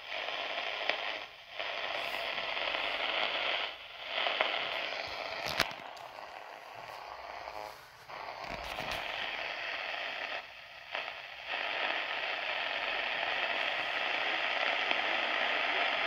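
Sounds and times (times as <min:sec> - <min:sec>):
radio hiss and static: 0:00.0 - 0:16.0.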